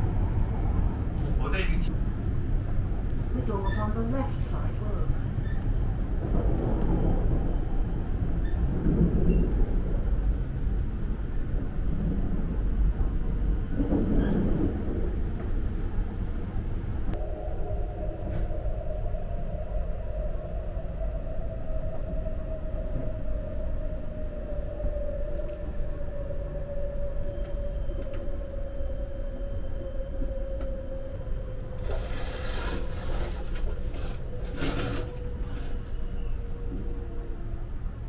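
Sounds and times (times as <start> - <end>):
train interior rumble: 0.0 - 38.0.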